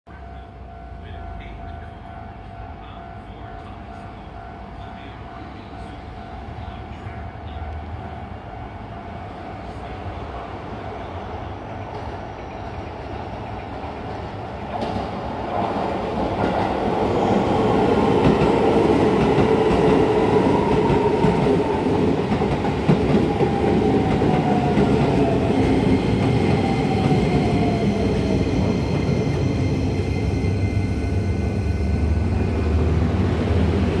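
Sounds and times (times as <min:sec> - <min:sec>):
falling whine of slowing train: 0:00.1 - 0:34.0
train wheels on rails: 0:06.6 - 0:34.0.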